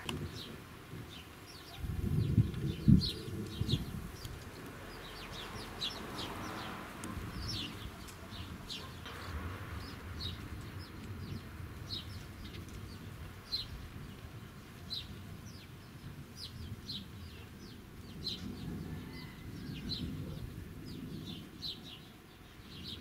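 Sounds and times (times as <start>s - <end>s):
small birds chirping: 0.0s - 23.0s
wind gusting on microphone: 0.0s - 23.0s.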